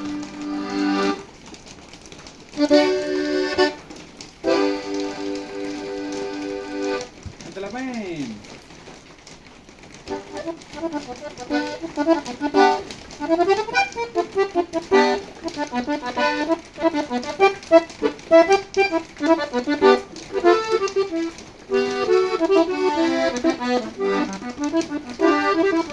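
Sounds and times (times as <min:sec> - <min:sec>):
accordion playing lively melody: 0:00.0 - 0:01.5, 0:02.5 - 0:07.6, 0:10.1 - 0:25.9.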